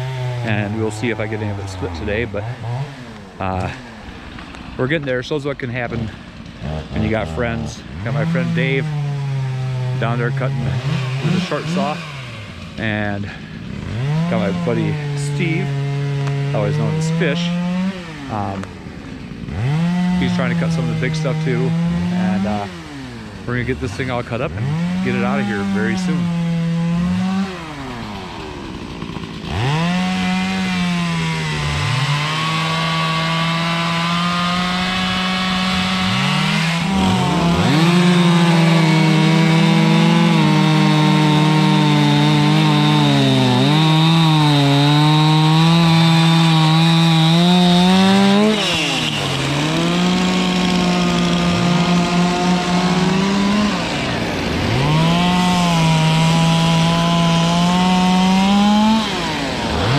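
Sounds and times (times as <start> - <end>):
chainsaw cutting logs: 0.0 - 59.9.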